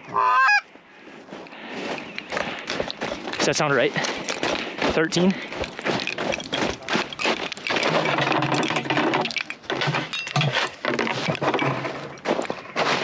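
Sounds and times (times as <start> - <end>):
crunching of crusted snow: 0.8 - 8.6, 10.2 - 13.0
gear rustling: 1.2 - 13.0.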